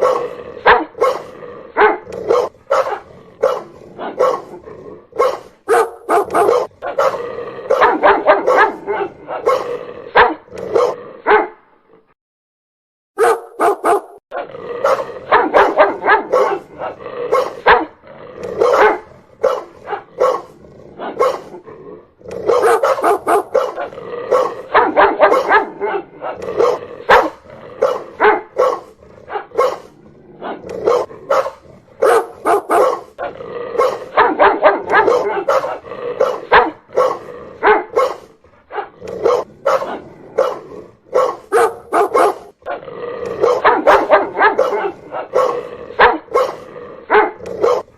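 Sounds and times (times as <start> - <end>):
dog barking loudly: 0.0 - 11.6, 13.2 - 21.6, 22.3 - 47.9.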